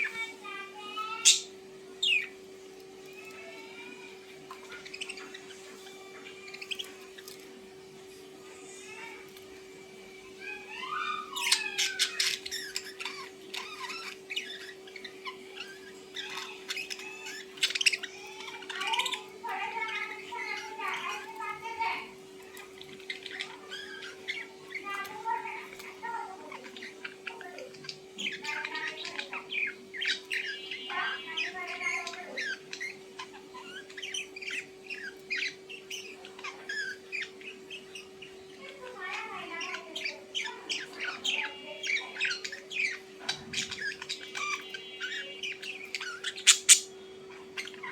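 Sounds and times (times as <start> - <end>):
bird chattering and squawking: 0.0 - 47.9.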